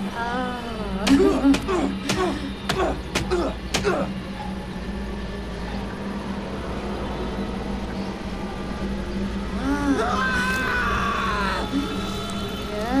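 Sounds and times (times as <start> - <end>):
low hum with deep rumble: 0.0 - 13.0.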